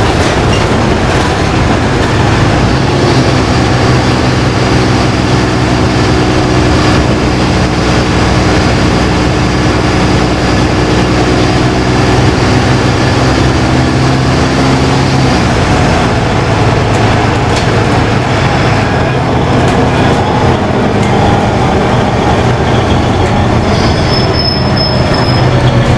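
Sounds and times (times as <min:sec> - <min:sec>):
bus diesel engine running: 0:00.0 - 0:25.9
road and cabin noise: 0:00.0 - 0:25.9.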